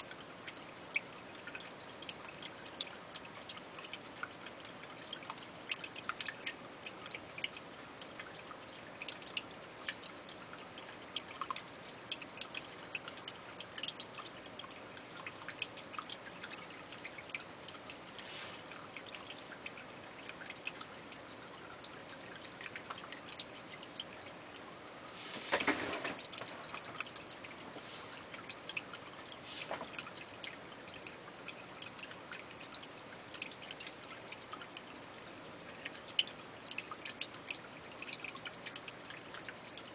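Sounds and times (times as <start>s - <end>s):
water trickling with drips: 0.0s - 39.9s.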